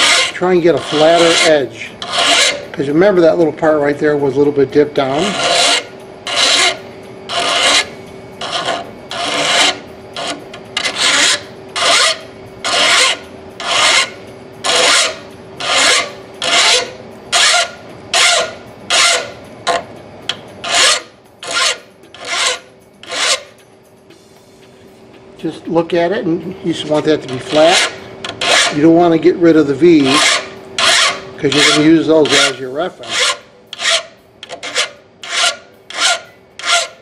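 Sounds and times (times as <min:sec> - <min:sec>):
file rasping on steel: 0:00.0 - 0:03.3, 0:05.0 - 0:19.8, 0:20.6 - 0:23.6, 0:26.9 - 0:29.0, 0:29.7 - 0:37.0.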